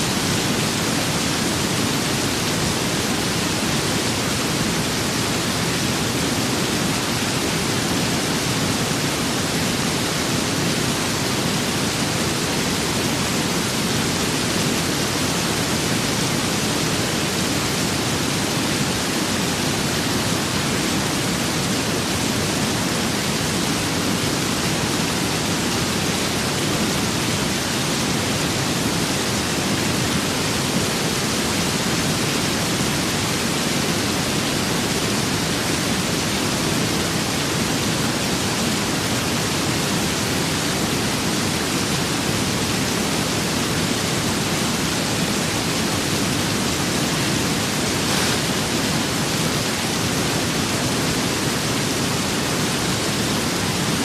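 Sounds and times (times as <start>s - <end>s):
steady rain with wind: 0.0s - 54.0s.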